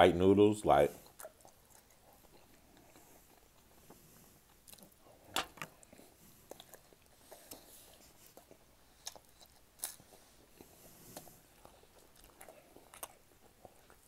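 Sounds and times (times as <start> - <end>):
close-up chewing: 0.9 - 14.0.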